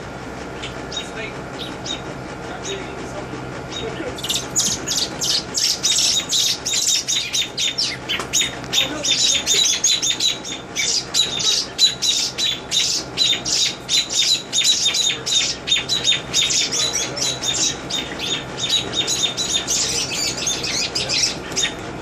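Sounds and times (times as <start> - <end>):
birds giving harsh alarm calls: 0.5 - 22.0.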